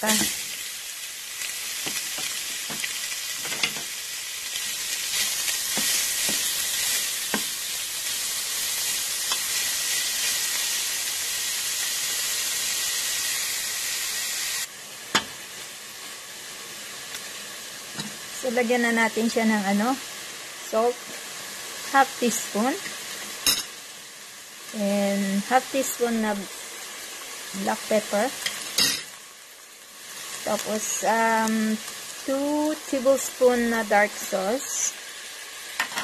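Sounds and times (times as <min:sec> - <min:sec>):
meat sizzling in a pot: 0:00.0 - 0:36.0.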